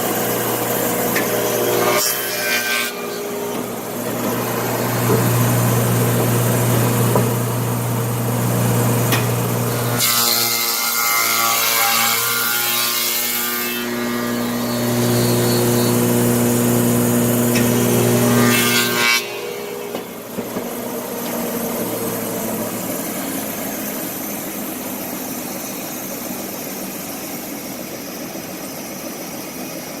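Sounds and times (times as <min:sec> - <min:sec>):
electric motors humming: 0:00.0 - 0:10.2, 0:13.0 - 0:29.9.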